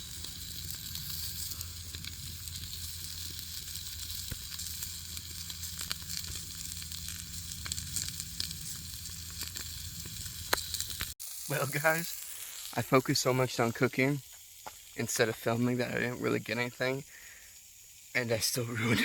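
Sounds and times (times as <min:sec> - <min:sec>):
steak sizzling in a pot: 0:00.0 - 0:19.0.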